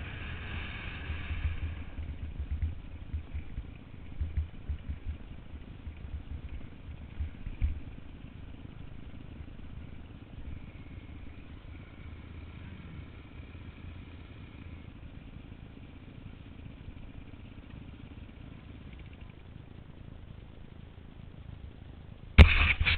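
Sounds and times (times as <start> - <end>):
dirt bike engine running: 0.0 - 22.9.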